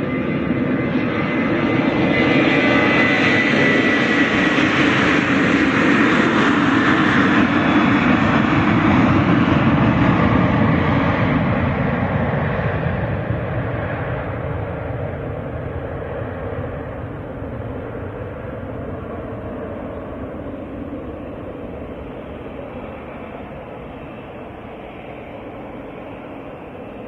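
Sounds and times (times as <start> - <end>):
high engine whine: 0.0 - 27.0
jet engines roaring: 0.0 - 27.0.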